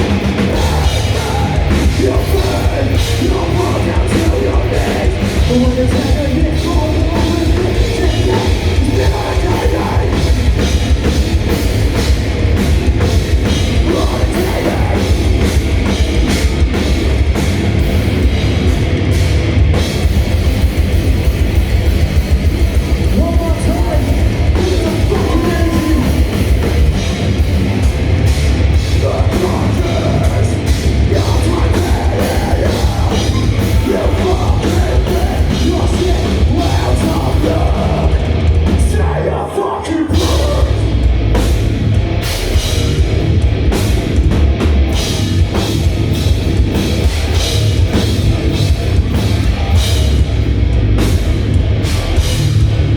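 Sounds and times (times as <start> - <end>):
fast drumming: 0.0 - 39.2, 40.1 - 52.9
heavy rock band playing: 0.0 - 52.9.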